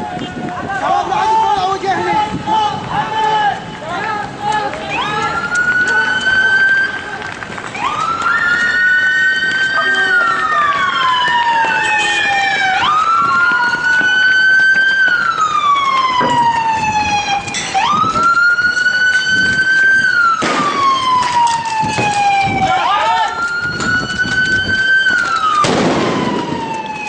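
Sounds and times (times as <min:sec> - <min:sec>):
police siren wailing: 0:04.4 - 0:27.0.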